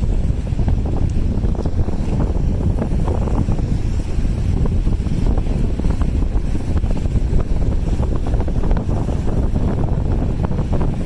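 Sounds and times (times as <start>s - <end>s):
lake waves: 0.0s - 11.0s
strong wind buffeting microphone: 0.0s - 11.0s.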